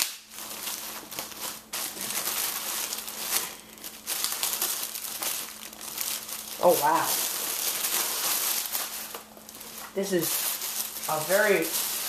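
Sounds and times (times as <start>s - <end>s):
plastic sleeve rustling and crinkling: 0.0s - 12.0s.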